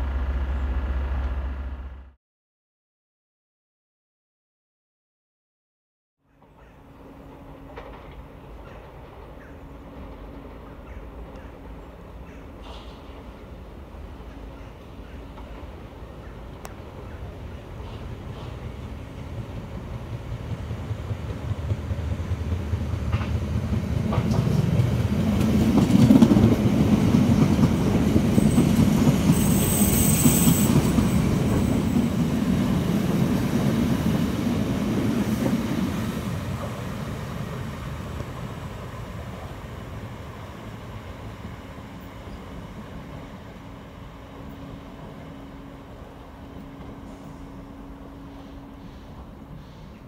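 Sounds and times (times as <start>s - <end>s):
electric train rumbling past: 0.0s - 2.2s, 6.3s - 50.0s.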